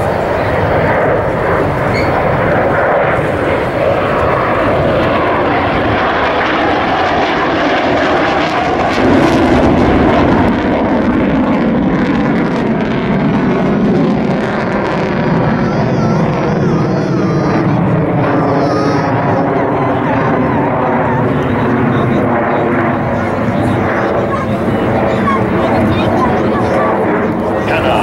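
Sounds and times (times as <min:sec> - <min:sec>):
aircraft engine in flight: 0:00.0 - 0:28.0.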